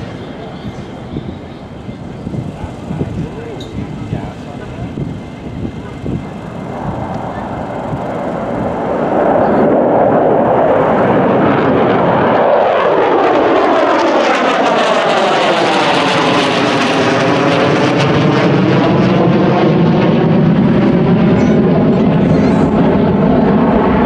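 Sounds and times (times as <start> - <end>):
jet engines flyby roar: 0.0 - 24.0.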